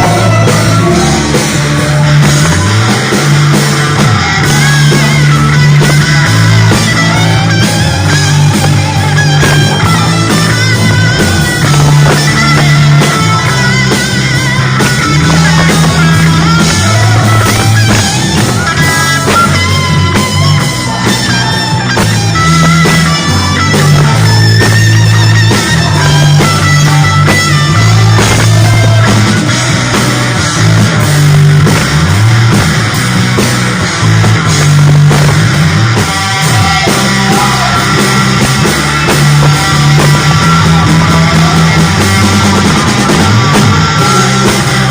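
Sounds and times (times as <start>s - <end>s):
loud rock music: 0.0s - 44.9s.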